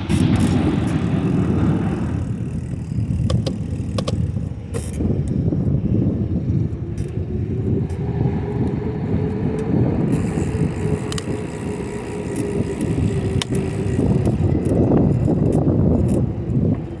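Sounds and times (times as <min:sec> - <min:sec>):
bicycle tyre rumble: 0:00.0 - 0:17.0
steady hum: 0:00.0 - 0:17.0
wind buffeting microphone: 0:00.0 - 0:17.0.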